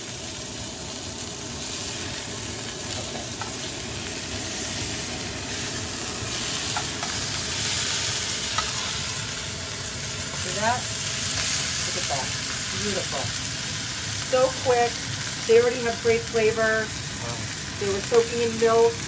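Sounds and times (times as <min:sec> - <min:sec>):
crabs sizzling in hot oil: 0:00.0 - 0:19.0.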